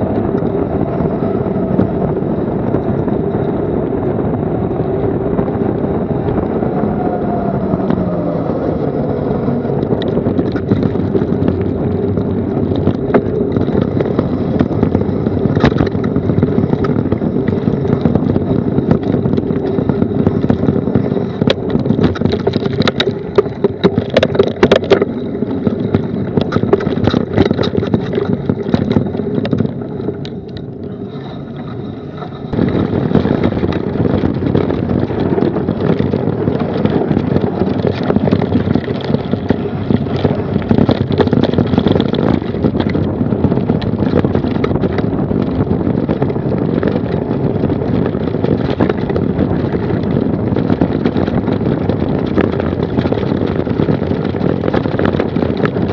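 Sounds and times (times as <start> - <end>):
bike tyre noise: 0.0 - 55.9
wind rush: 0.0 - 55.9
bike knocking and rattling: 8.7 - 55.9.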